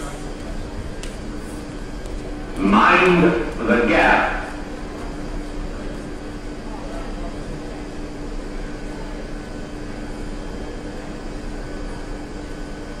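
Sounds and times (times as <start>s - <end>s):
rush of noise in station: 0.0s - 13.0s
standing train humming: 0.0s - 13.0s.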